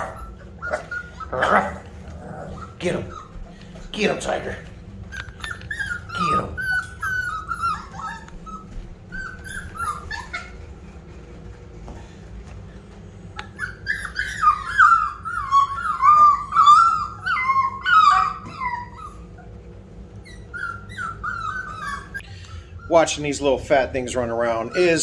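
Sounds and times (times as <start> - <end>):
puppies whining and yipping: 0.0 - 25.0.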